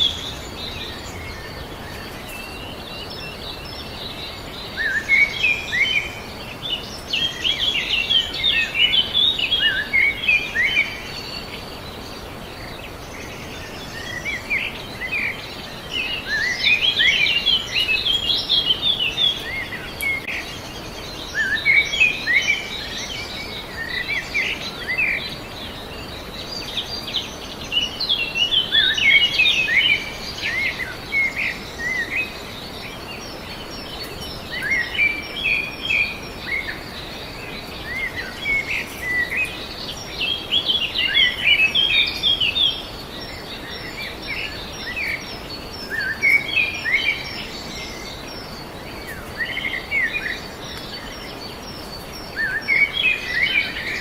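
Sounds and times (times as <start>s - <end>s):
background hiss: 0.0s - 54.0s
birds chirping and calling: 0.0s - 54.0s.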